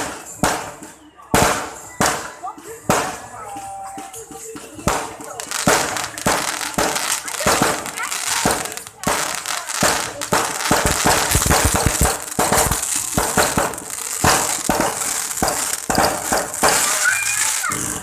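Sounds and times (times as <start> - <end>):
fireworks and firecrackers cracking: 0.0 - 18.0.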